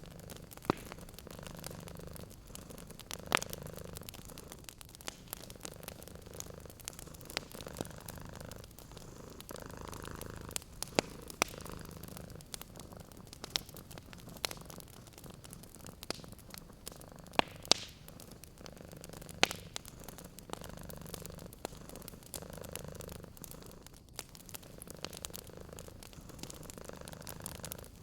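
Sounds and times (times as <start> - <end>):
cat purring: 0.0 - 28.0
wood fire crackling and popping: 0.0 - 28.0.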